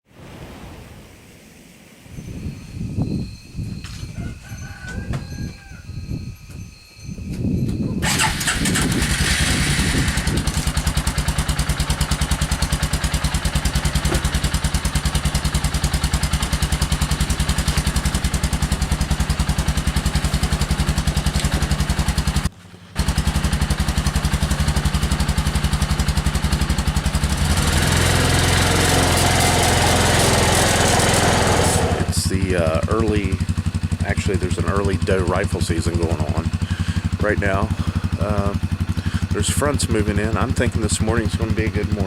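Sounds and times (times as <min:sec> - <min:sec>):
small engine running: 0:08.0 - 0:42.0.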